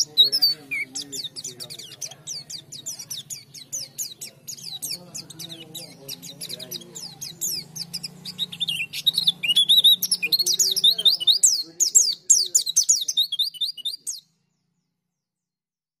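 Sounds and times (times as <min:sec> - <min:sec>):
bird chirping and trilling: 0:00.0 - 0:15.0.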